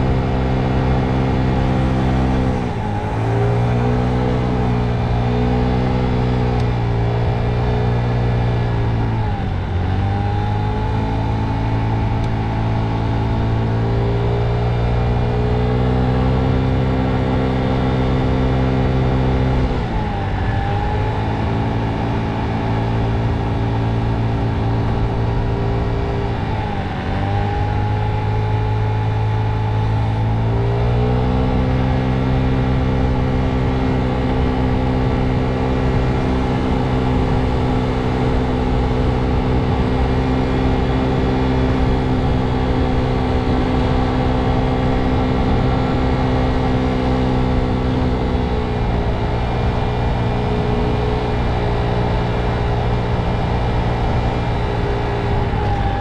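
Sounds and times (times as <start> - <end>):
motor scooter engine running: 0.0 - 56.0.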